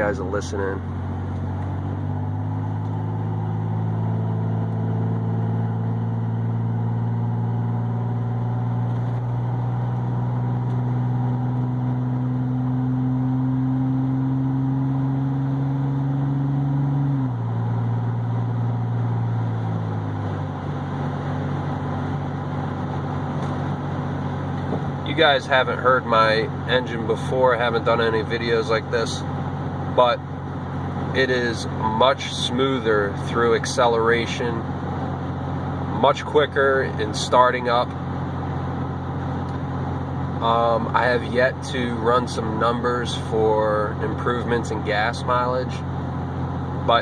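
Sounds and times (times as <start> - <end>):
truck engine from inside cab: 0.0 - 47.0.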